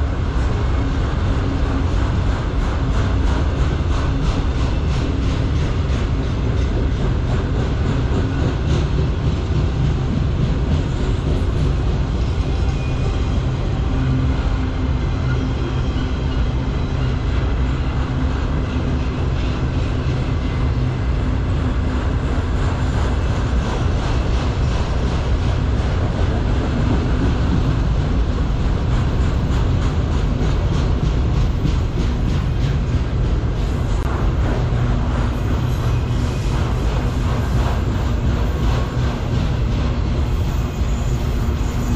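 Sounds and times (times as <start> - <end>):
steel wheels rumbling on rail: 0.0 - 41.9.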